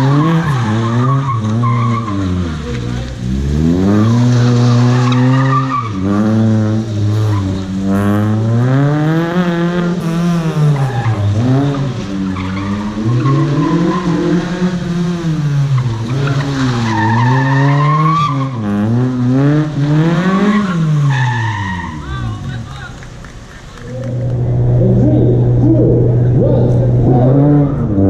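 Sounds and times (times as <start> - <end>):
car engine revving hard: 0.0 - 22.2, 24.1 - 28.0.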